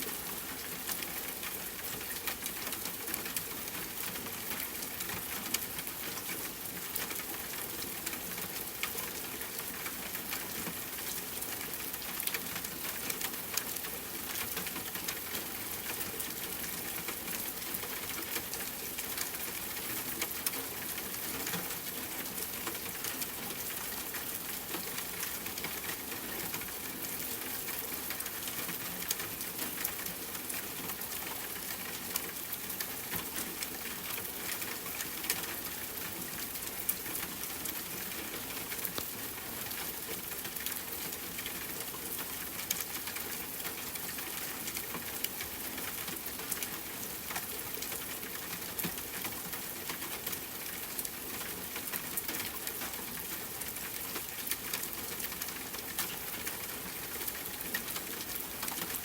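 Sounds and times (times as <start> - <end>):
rain on a tent: 0.0 - 59.0.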